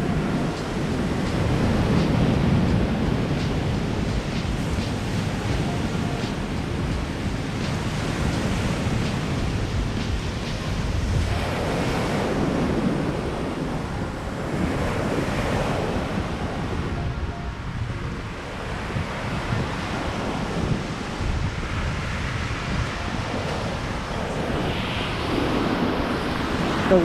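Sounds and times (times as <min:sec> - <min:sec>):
waves breaking on shore: 0:00.0 - 0:27.0
wind buffeting microphone: 0:00.0 - 0:27.0.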